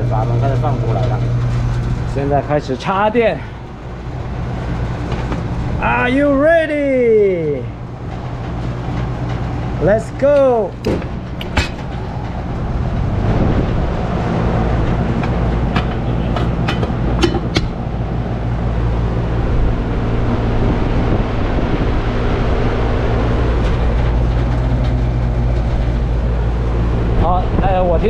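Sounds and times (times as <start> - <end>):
air conditioner humming: 0.0 - 28.0.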